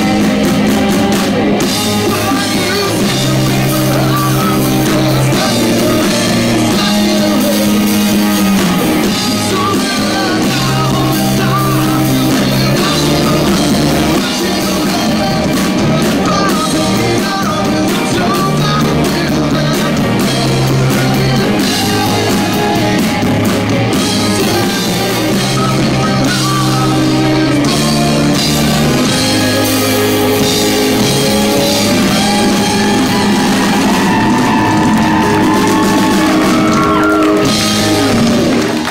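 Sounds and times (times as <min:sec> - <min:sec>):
man singing lead vocal: 0:00.0 - 0:38.9
rock band playing loudly: 0:00.0 - 0:38.9.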